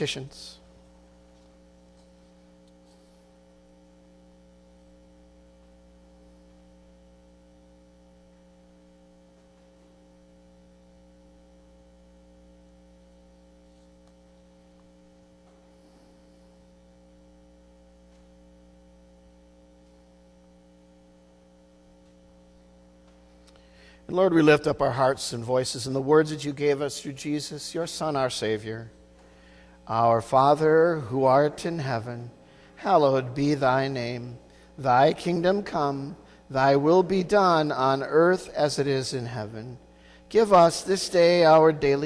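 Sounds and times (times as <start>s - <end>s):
faint electrical hum: 0.0s - 42.0s.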